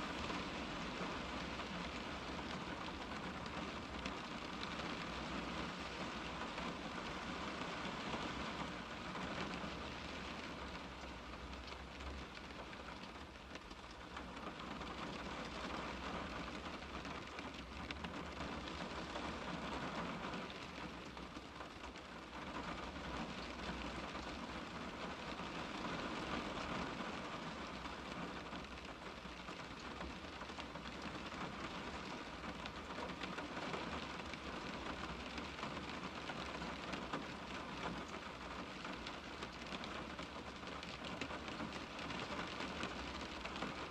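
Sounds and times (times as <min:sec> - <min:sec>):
rain on car window: 0:00.0 - 0:43.9.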